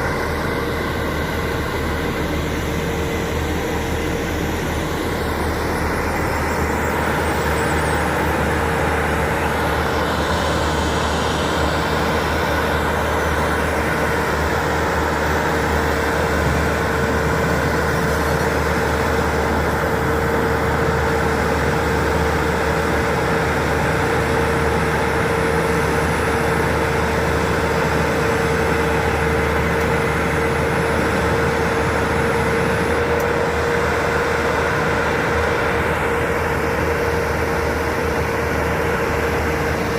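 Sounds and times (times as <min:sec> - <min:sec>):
diesel machinery engine rumble: 0:00.0 - 0:39.9
steady machine whine: 0:00.0 - 0:39.9.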